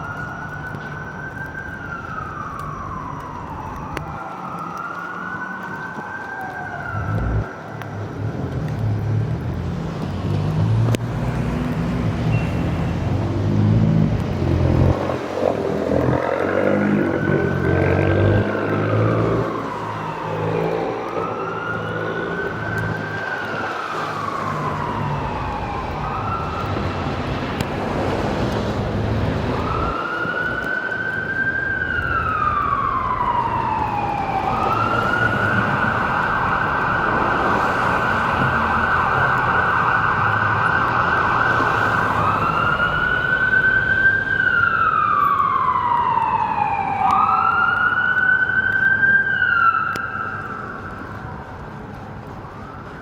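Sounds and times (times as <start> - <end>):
emergency vehicle siren: 0.0 - 53.0
traffic rumble: 0.0 - 53.0.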